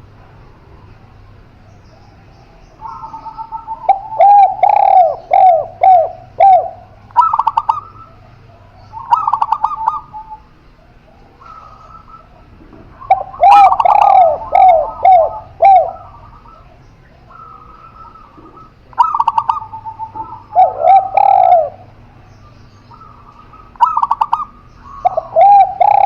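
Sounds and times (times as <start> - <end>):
dove rapid trills: 0.0 - 26.0
doves cooing: 0.0 - 26.0.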